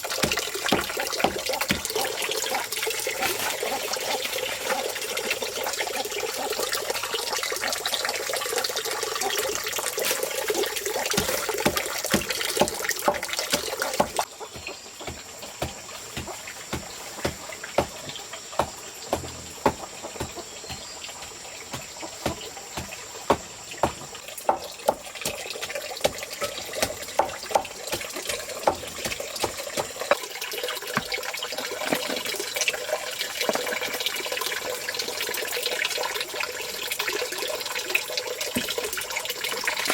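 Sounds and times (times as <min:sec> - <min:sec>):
running water hiss: 0:00.0 - 0:39.9.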